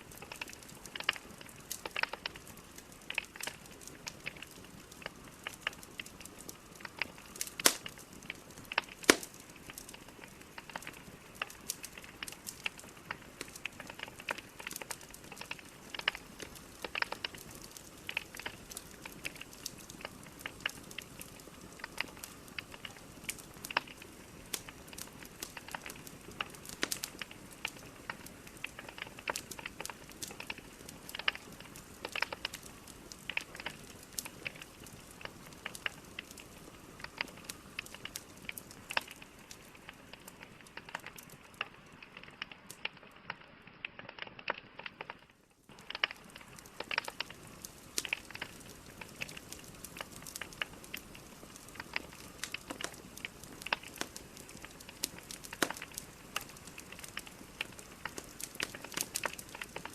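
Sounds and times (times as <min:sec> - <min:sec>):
logs crackling and popping: 0:00.0 - 0:59.9
soft steady fire hiss: 0:00.0 - 0:59.9.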